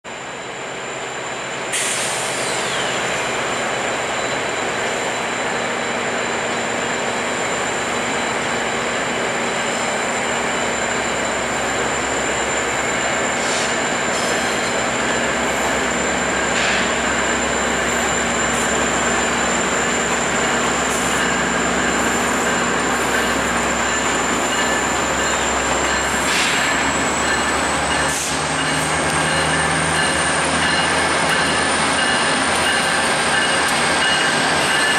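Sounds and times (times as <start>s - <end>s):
train wheel squeal: 0.1s - 34.9s.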